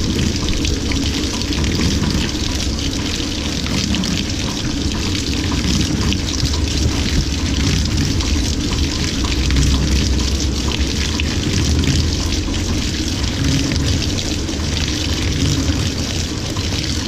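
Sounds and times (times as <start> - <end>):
water pouring into drum: 0.0 - 17.0.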